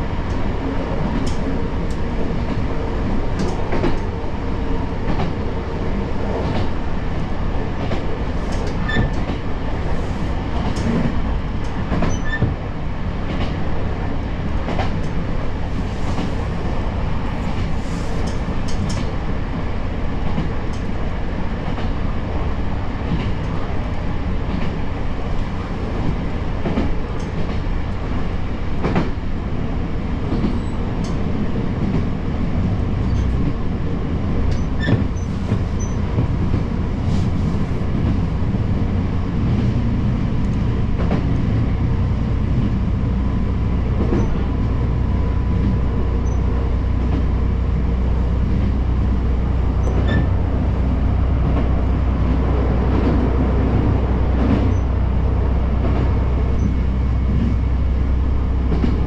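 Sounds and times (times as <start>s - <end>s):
diesel railcar rumble: 0.0s - 59.0s.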